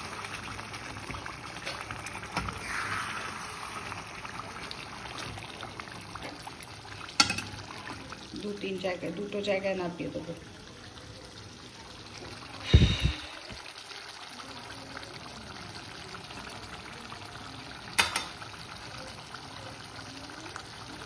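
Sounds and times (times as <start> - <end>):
curry bubbling in pan: 0.0 - 21.0.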